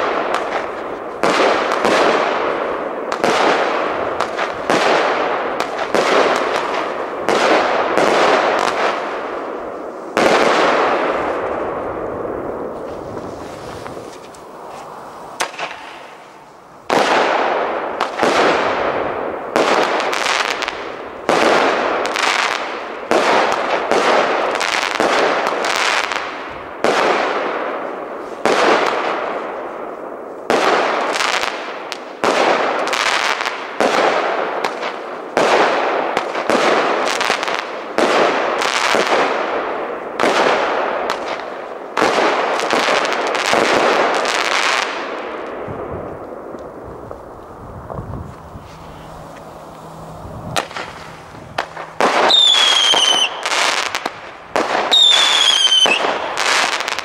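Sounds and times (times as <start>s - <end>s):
firework shots firing: 0.0s - 29.7s, 30.5s - 57.0s
crackling firework stars: 0.0s - 57.0s.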